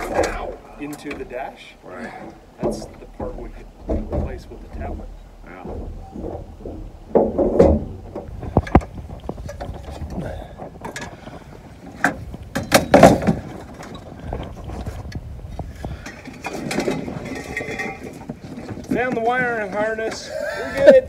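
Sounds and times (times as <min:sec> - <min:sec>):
metal car parts clanking: 0:00.0 - 0:11.2, 0:11.8 - 0:14.2, 0:15.8 - 0:21.0.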